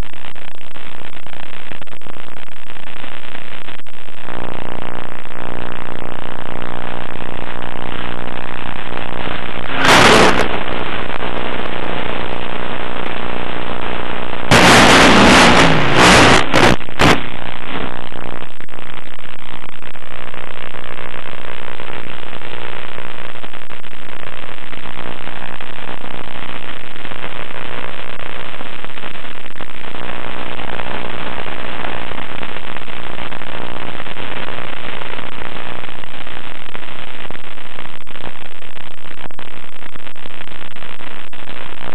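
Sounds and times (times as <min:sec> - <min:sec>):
crackling radio static: 0:00.0 - 0:41.9.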